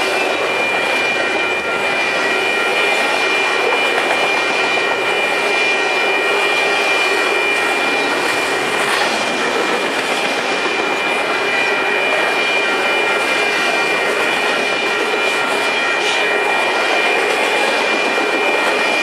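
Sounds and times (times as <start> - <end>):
high-pitched whine: 0.0 - 19.0
train wheels rumbling on rail: 0.0 - 19.0.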